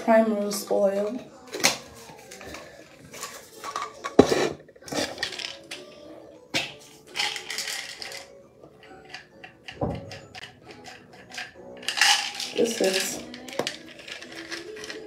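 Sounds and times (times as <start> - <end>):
plastic bottles clicking and rattling: 0.8 - 6.0, 6.6 - 15.0.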